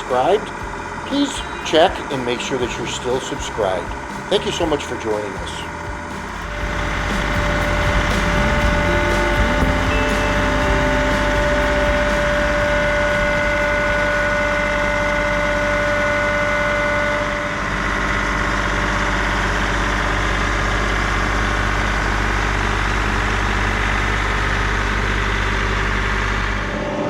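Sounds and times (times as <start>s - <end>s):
high whine: 0.0s - 27.0s
tractor engine running: 0.0s - 27.0s.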